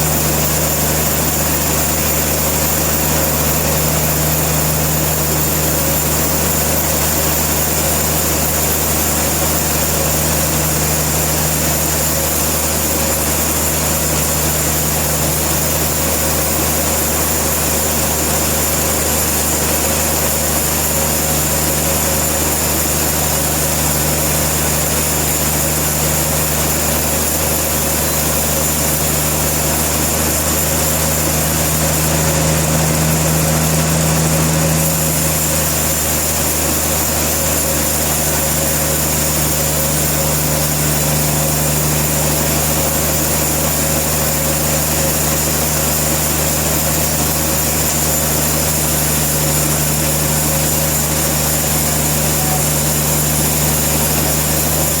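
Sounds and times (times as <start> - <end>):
sawmill engine droning: 0.0 - 55.0.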